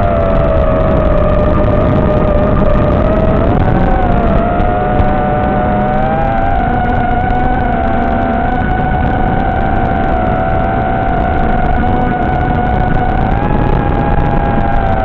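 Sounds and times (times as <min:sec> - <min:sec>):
electric motor and propeller whining: 0:00.0 - 0:15.0
rushing wind noise: 0:00.0 - 0:15.0.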